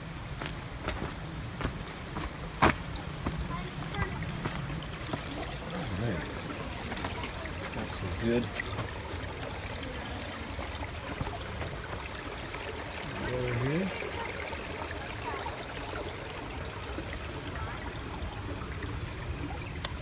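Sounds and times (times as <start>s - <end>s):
stream trickling over rocks: 0.0s - 20.0s.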